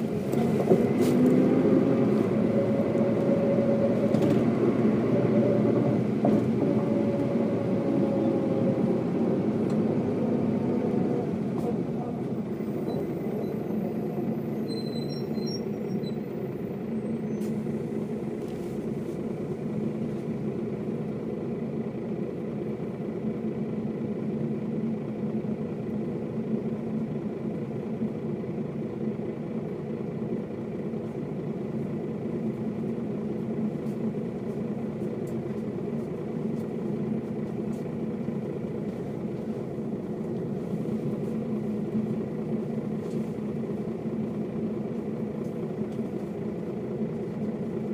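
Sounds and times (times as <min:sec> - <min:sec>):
bus diesel engine running: 0:00.0 - 0:47.9.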